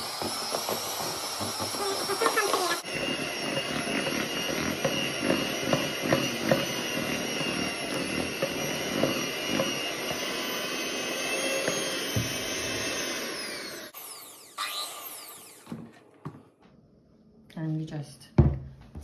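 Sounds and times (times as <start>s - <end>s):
electric hand mixer running: 0.0s - 16.4s.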